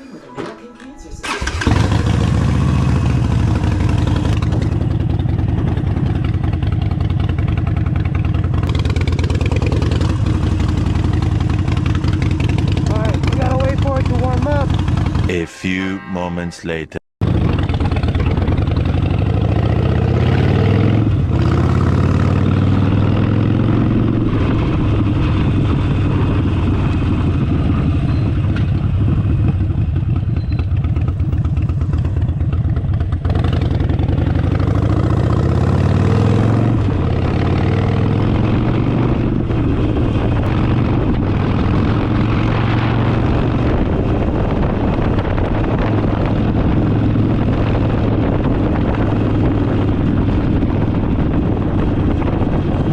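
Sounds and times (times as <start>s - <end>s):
motorcycle engine running: 1.2s - 15.3s, 17.2s - 52.9s.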